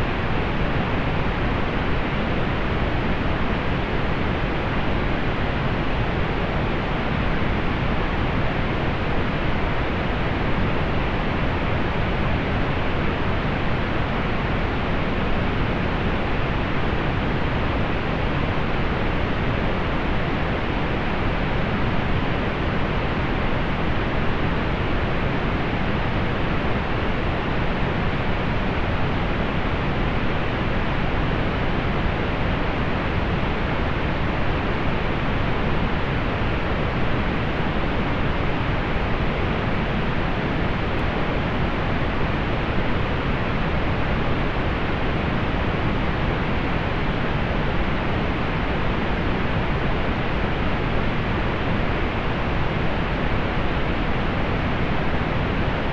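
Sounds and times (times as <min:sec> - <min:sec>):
steady pink noise hiss: 0:00.0 - 0:55.9.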